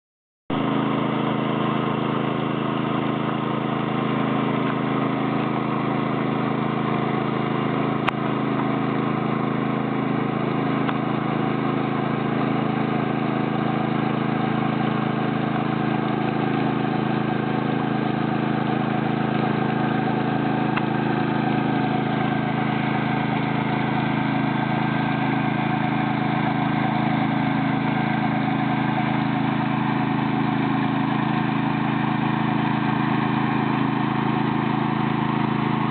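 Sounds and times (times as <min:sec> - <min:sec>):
small engine running: 0:00.5 - 0:35.9.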